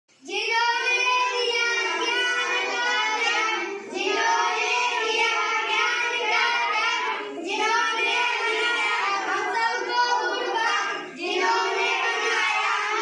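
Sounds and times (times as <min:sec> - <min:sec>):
children singing in unison: 0:00.2 - 0:13.0.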